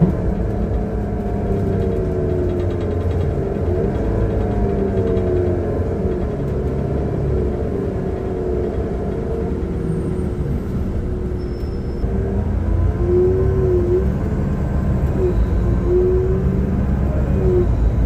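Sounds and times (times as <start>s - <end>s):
bus engine rumbling with whine: 0.0s - 18.0s.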